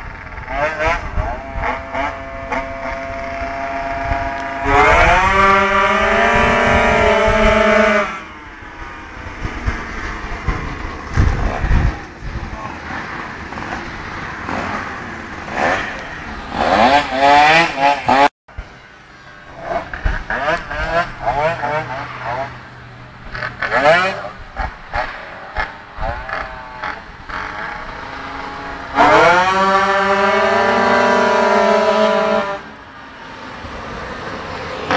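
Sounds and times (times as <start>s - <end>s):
two-stroke scooters racing: 0.0s - 34.9s.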